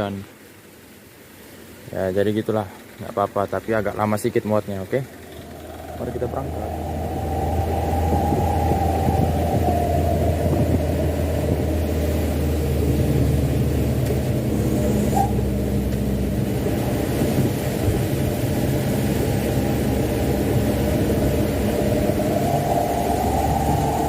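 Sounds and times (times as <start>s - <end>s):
diesel truck engine running: 2.7s - 24.0s.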